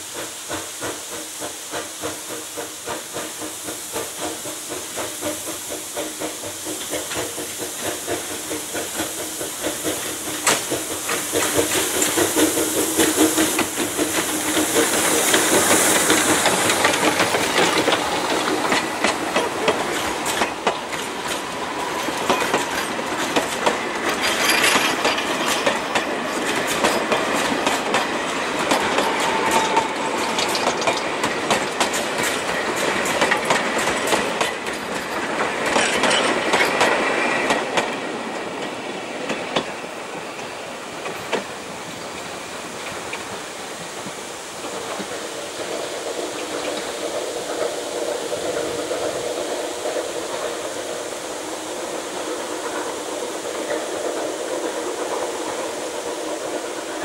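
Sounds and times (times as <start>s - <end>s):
steam hissing: 0.0s - 57.0s.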